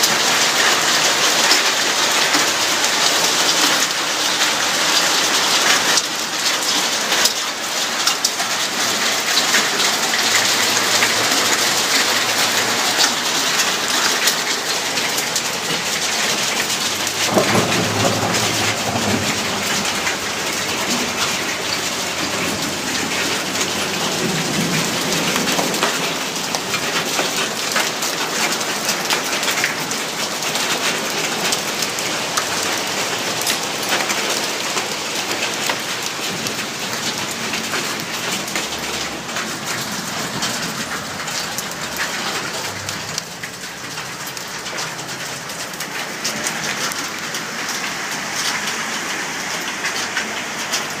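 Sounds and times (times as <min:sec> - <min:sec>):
hailstones striking hard surfaces: 0:00.0 - 0:51.0
heavy rain hissing: 0:00.2 - 0:51.0.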